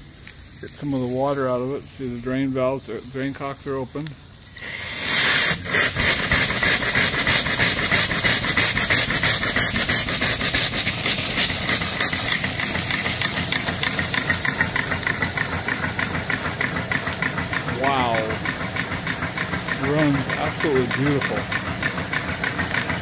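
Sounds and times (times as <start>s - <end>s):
steam engine exhaust beat: 0.0s - 23.0s
steam hissing from drain cocks: 0.0s - 23.0s.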